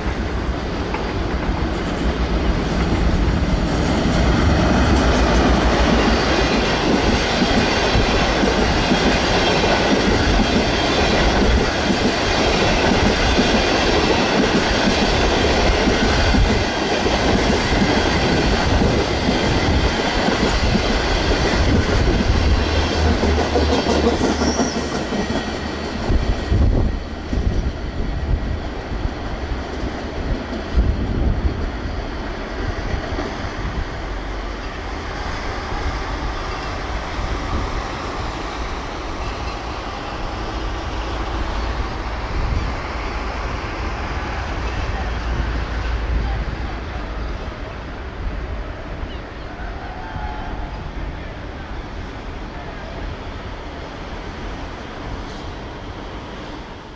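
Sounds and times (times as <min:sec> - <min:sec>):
passenger train passing at speed: 0:00.0 - 0:56.9
wheels on rail: 0:00.0 - 0:56.9.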